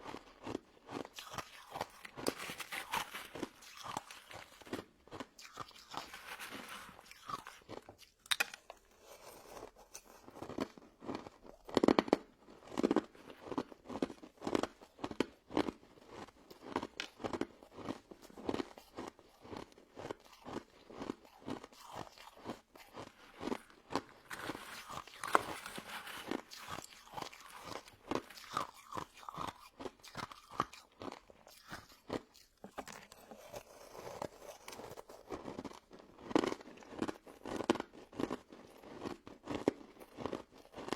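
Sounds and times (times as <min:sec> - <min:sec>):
person crunching ice dessert: 0:00.0 - 0:40.9.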